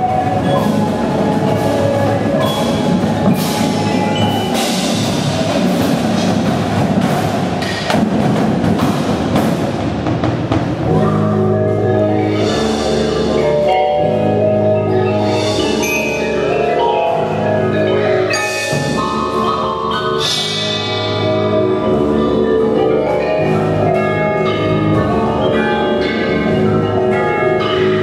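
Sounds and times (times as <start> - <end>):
chime-like tones: 0.0 - 5.6, 10.9 - 28.0
marimbas playing slow passage: 0.0 - 7.7, 10.8 - 28.0.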